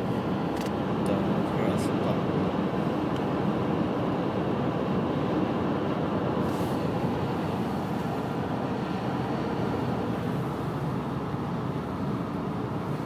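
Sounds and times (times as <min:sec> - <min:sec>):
car tyres on wet road: 0:00.0 - 0:13.0.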